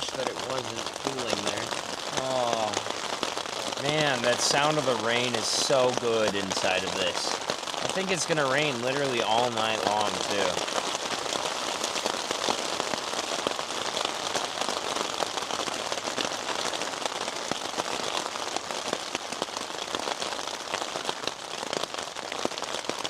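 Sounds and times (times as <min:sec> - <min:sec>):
rain on a roof: 0:00.0 - 0:23.0.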